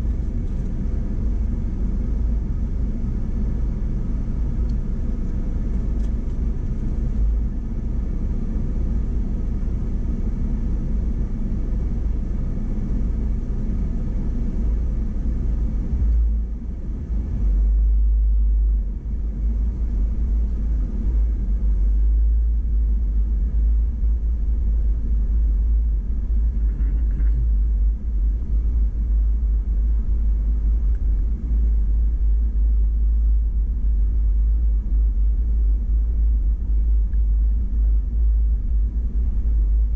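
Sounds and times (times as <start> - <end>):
off-road vehicle rumbling: 0.0 - 39.9.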